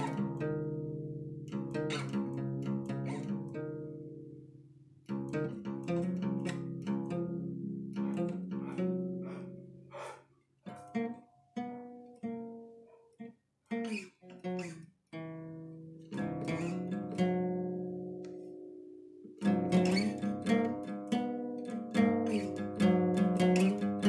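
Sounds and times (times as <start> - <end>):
acoustic guitar strumming and picking: 0.0 - 24.0.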